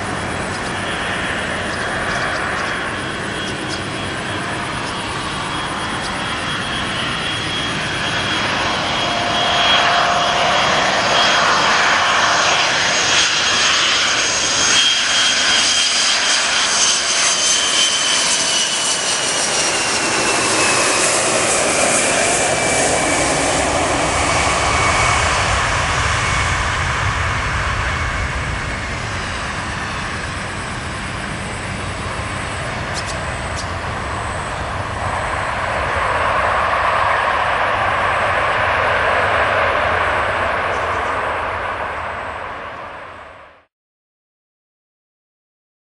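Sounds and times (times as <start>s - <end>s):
jet flying low past: 0.0s - 43.7s.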